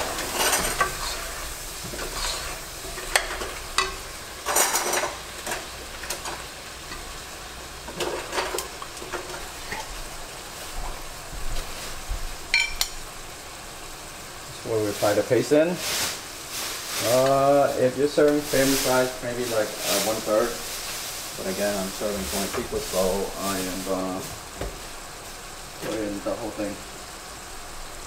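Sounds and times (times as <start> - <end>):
onions sizzling in a pot: 0.0 - 28.0.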